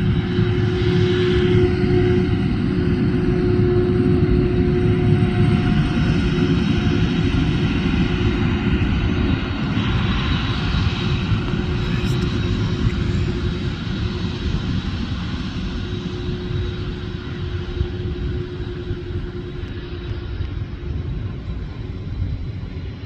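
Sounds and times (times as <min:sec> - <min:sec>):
high jet whine: 0:00.0 - 0:23.0
jet engines low rumble: 0:00.0 - 0:23.0.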